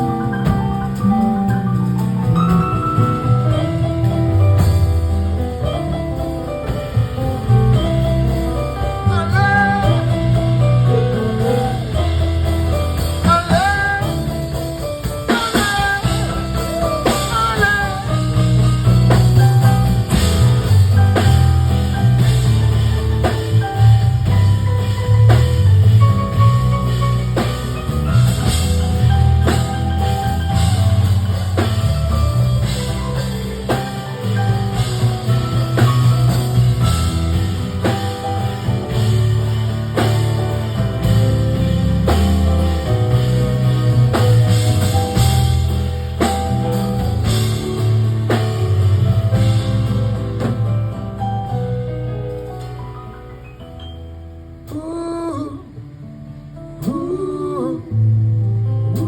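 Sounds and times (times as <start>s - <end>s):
drum kit beat: 0.0s - 53.9s
heavy bass line: 0.0s - 54.9s
live band music: 0.0s - 59.0s.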